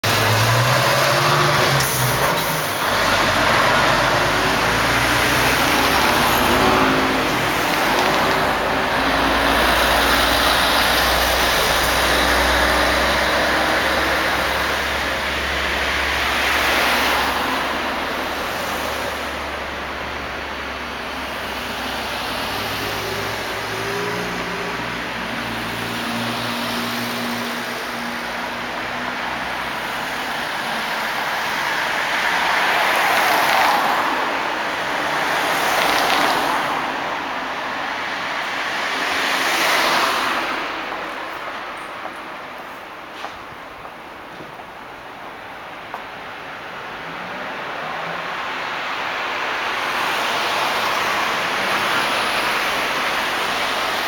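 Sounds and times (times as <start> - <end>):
cars passing on road: 0.0 - 54.0.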